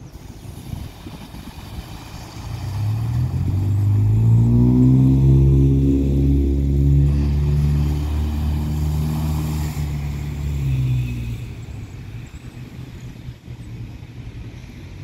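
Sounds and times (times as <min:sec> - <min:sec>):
tyres swishing through water: 0:00.0 - 0:15.0.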